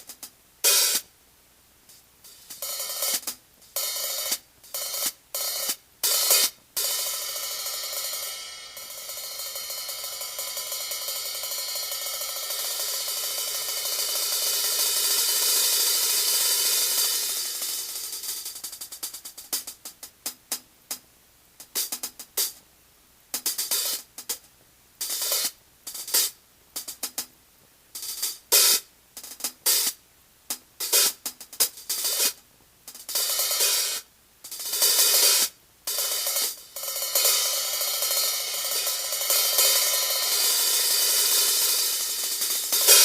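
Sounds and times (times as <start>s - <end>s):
electronic hi-hat hits: 0.0s - 1.1s, 1.9s - 22.6s, 23.3s - 27.3s, 28.0s - 43.0s.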